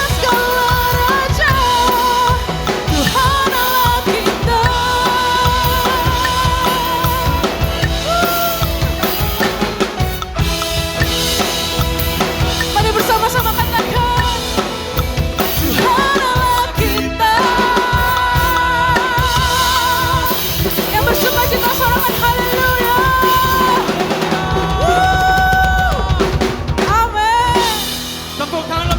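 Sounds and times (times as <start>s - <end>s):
singer holding wavering notes: 0.0s - 26.4s
backing song: 0.0s - 28.9s
drum kit playing: 0.0s - 28.9s.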